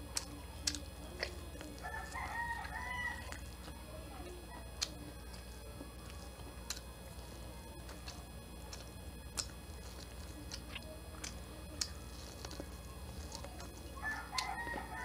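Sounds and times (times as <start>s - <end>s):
chewing corn on the cob: 0.0s - 15.0s.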